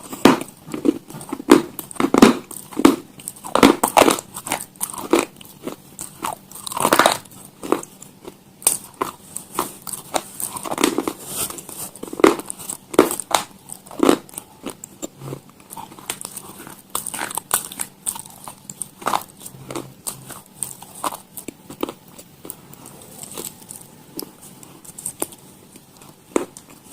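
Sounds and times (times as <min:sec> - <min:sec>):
crunchy food chewing: 0:00.0 - 0:26.9.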